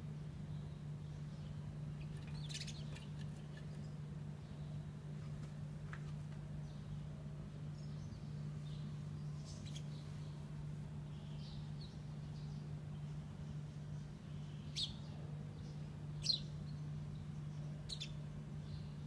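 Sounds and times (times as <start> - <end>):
steady low hum: 0.0 - 19.0
bird chirping: 0.5 - 4.8, 7.7 - 19.0.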